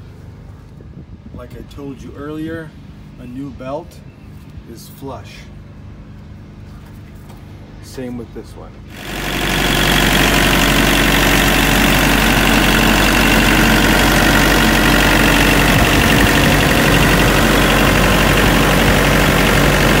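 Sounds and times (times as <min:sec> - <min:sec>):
fan rush: 0:00.0 - 0:20.0
refrigeration unit engine drone: 0:00.0 - 0:20.0.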